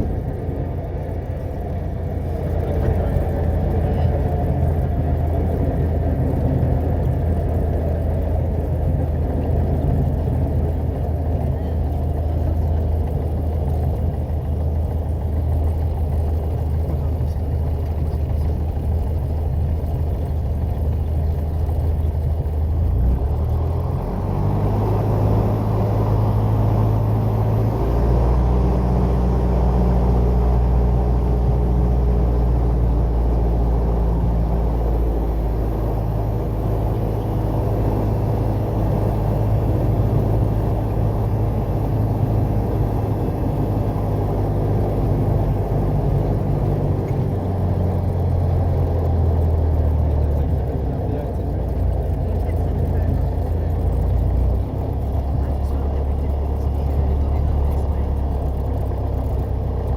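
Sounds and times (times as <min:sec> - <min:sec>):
light aircraft piston engine: 0:00.0 - 0:59.9.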